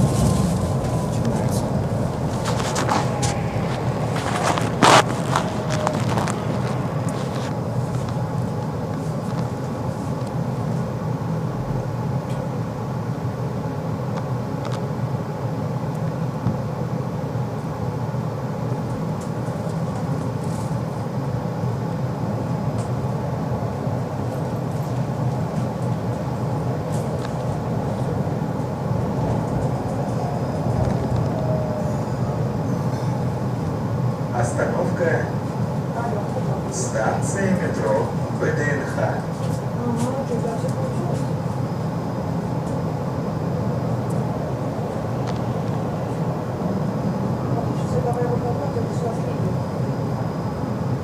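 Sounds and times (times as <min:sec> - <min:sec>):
tram wheels rumbling on rails: 0:00.0 - 0:13.4, 0:16.0 - 0:51.0.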